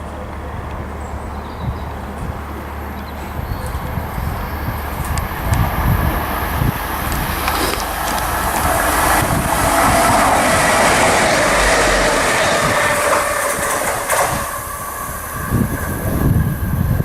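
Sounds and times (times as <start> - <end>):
low rumbling: 0.0 - 17.0
train passing on tracks: 0.0 - 17.0.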